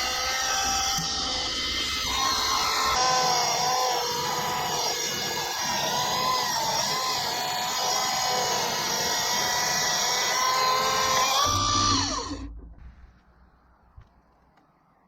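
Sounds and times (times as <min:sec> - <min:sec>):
electric chainsaw cutting log: 0:00.0 - 0:12.5.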